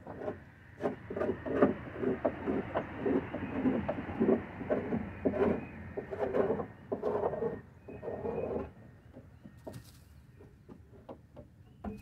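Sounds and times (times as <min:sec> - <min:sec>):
scraping and knocking on wood: 0:00.0 - 0:12.0.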